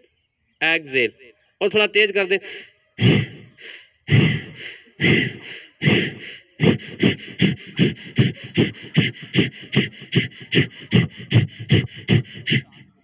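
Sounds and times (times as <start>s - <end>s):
forceful rhythmic breathing: 2.4s - 13.0s.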